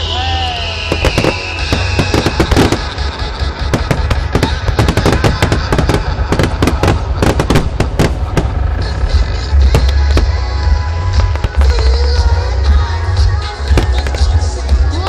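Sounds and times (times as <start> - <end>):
fireworks bursting and crackling: 0.1 - 15.0
continuous low rumble: 2.8 - 15.0.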